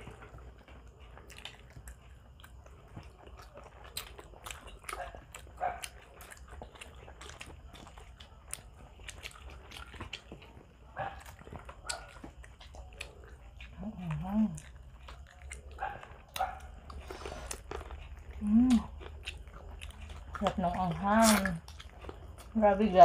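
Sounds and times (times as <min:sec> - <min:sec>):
chewing and lip smacks: 0:00.0 - 0:23.0.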